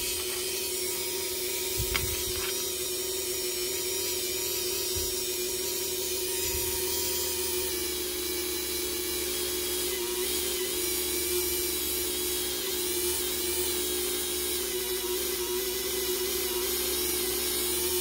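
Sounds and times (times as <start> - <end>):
rotary tool high whine: 0.0 - 18.0.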